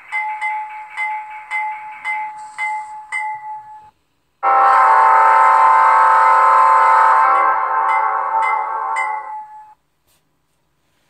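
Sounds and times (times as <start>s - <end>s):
two-note locomotive bell ringing: 0.0s - 6.5s, 7.1s - 9.8s.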